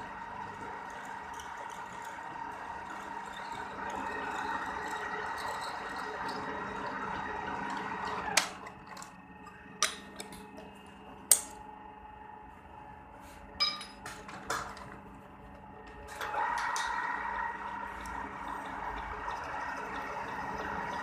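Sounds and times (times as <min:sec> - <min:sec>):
lathe humming: 0:00.0 - 0:13.6, 0:14.2 - 0:21.0.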